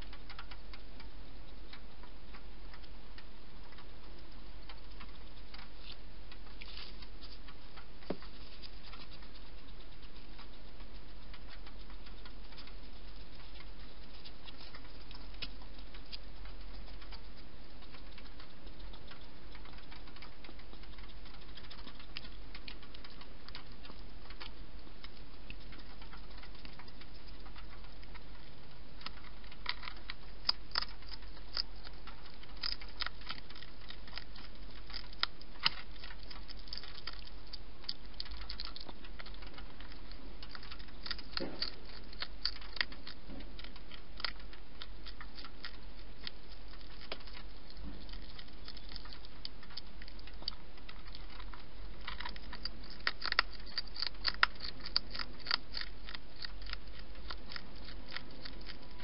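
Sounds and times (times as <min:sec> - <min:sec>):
hedgehog chewing clicks and crunches: 0:00.0 - 0:59.0
steady background hiss: 0:00.0 - 0:59.0.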